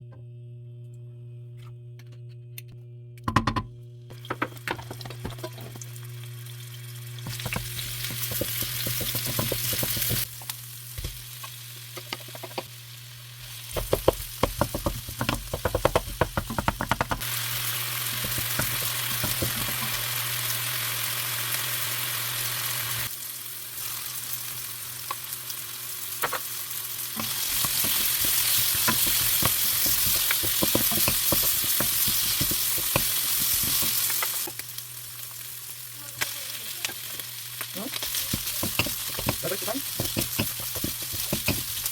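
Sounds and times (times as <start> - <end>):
food sizzling in frying pan: 4.1 - 41.9.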